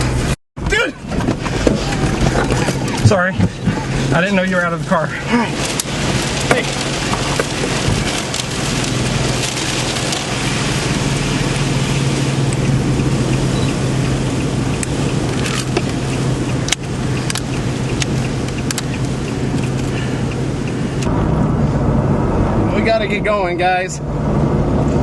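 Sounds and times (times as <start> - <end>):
heavy rain: 0.0 - 21.8
car engine low hum: 0.0 - 25.0
wind noise: 1.0 - 25.0.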